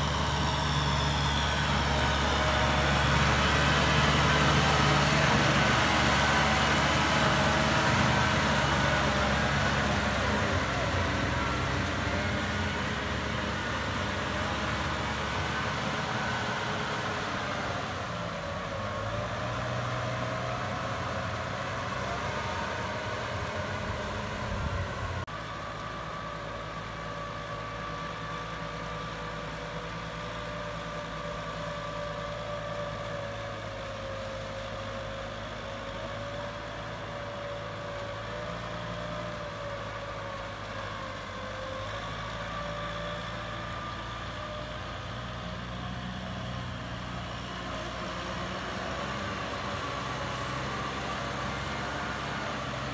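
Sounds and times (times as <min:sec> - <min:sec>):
tractor diesel engine running: 0:00.0 - 0:52.9
whining tone: 0:00.0 - 0:52.9.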